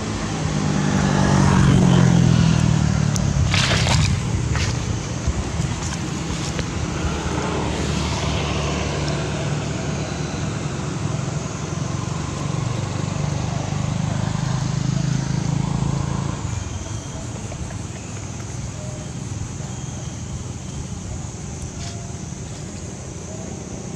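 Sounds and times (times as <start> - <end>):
vehicle engine rumble: 0.0 - 23.9.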